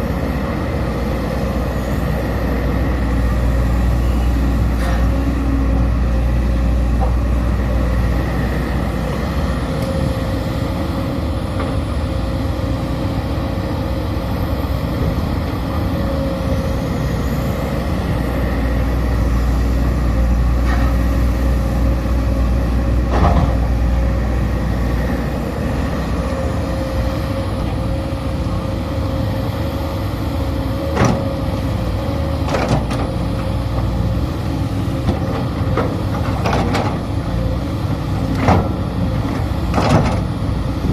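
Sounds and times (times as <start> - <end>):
excavator diesel engine rumbling: 0.0 - 40.9.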